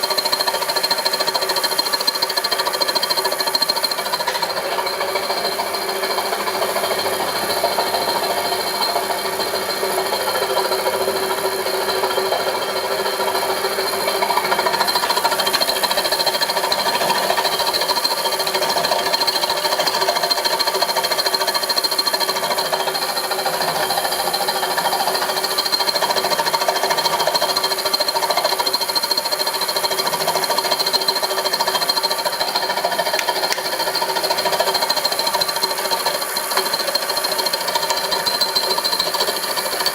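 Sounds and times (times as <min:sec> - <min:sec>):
milling machine humming: 0:02.3 - 0:39.9.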